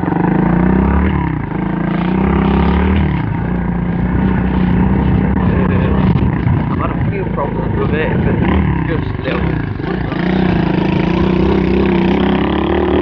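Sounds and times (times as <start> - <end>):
pit bike engine running: 0.0 - 13.0.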